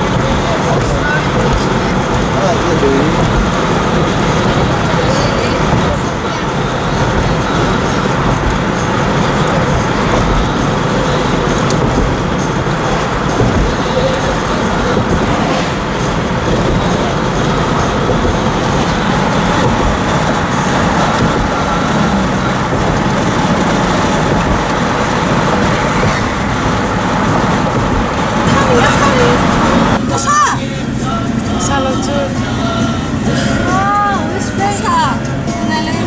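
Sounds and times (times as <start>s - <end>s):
van road and engine noise: 0.0s - 36.0s.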